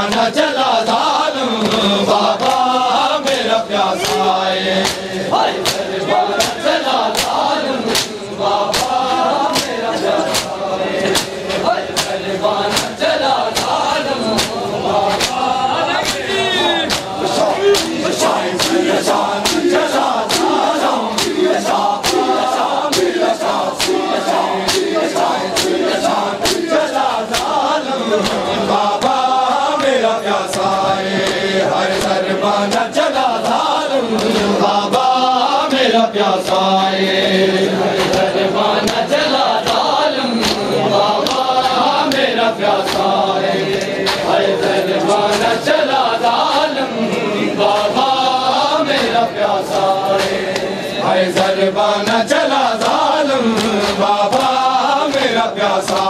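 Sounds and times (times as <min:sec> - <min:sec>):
men chanting a lament: 0:00.0 - 0:56.0
rhythmic chest-beating slaps: 0:00.0 - 0:56.0.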